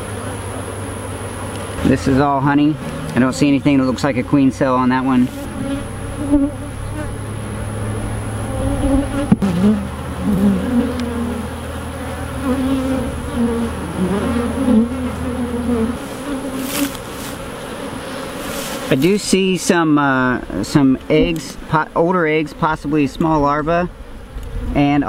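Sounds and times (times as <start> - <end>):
bees buzzing: 0.0 - 21.2.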